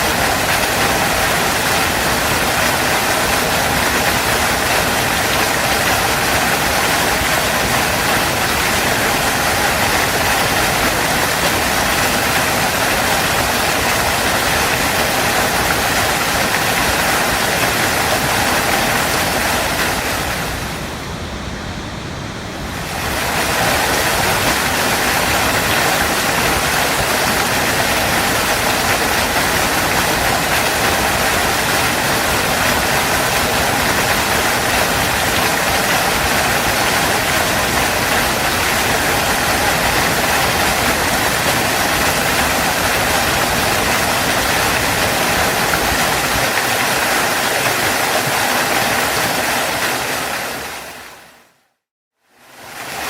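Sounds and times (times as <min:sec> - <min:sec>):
waterfall rushing: 0:00.0 - 0:51.7, 0:52.5 - 0:53.0.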